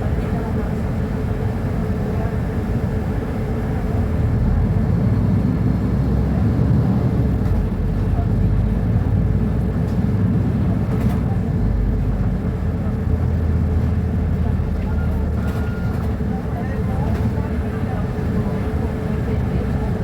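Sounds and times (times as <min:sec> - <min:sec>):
bus diesel engine rumbling: 0:00.0 - 0:20.0.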